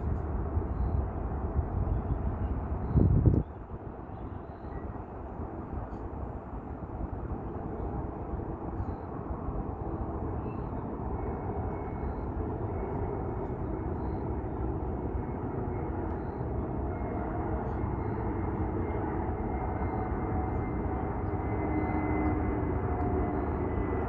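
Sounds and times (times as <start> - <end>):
faint high whine: 0.0 - 24.0
jet engines rumbling: 0.0 - 24.0.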